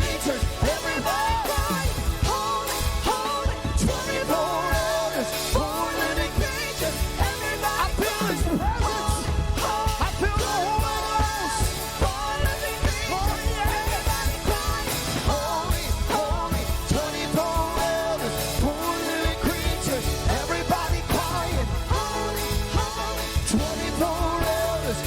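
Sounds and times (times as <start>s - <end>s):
band with drum kit: 0.0s - 25.0s
person singing: 0.0s - 25.0s.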